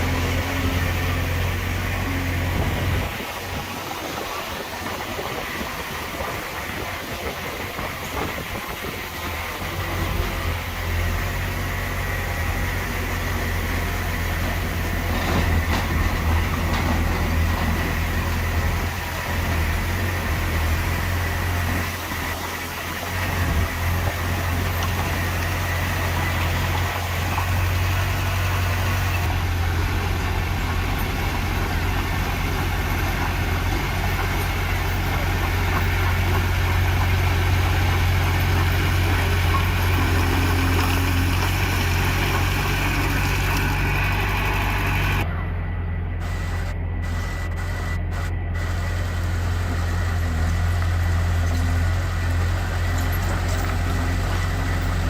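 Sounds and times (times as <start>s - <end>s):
diesel machinery engine hum: 0.0s - 55.0s.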